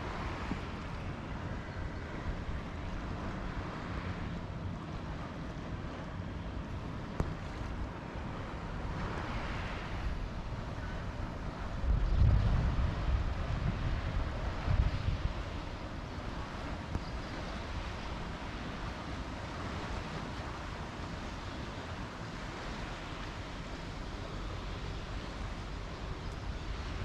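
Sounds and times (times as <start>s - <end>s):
sea waves washing on shore: 0.0s - 27.0s
wind buffeting microphone: 0.0s - 27.0s.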